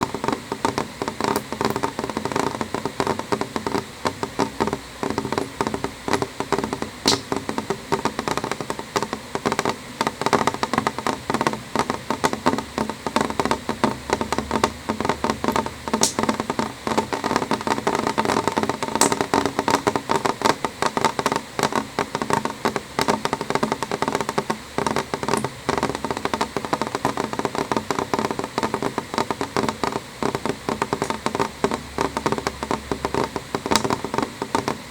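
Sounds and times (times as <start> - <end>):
rain drops tapping on window: 0.0 - 34.9
steady rain hiss: 0.0 - 34.9.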